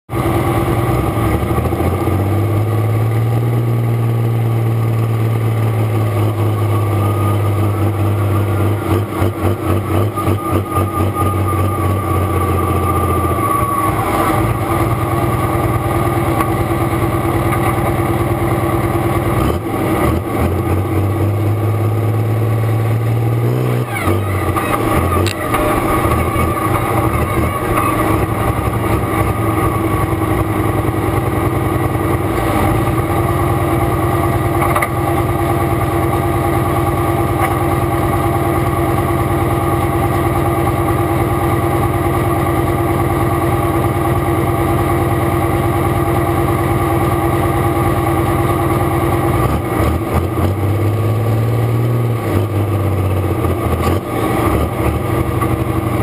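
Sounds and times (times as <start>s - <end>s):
tractor diesel engine idling: 0.1s - 56.0s.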